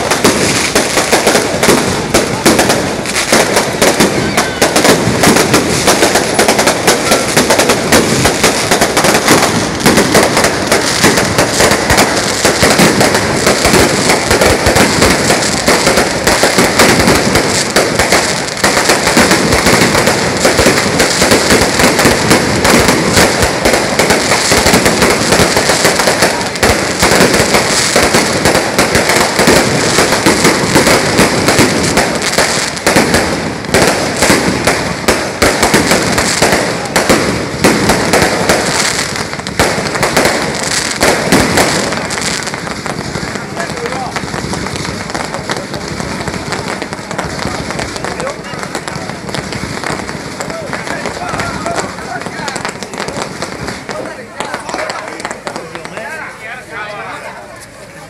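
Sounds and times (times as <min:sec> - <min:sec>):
firecrackers going off: 0:00.0 - 0:58.0.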